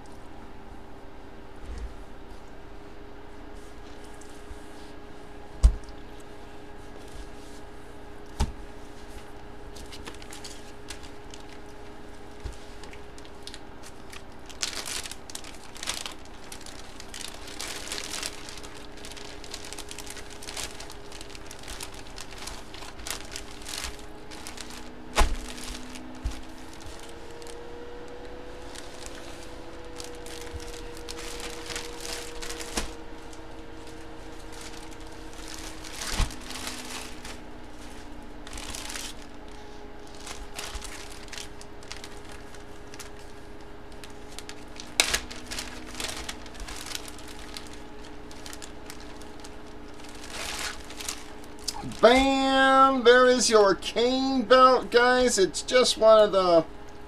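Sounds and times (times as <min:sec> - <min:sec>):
plastic packaging crinkling: 0:05.7 - 0:53.6.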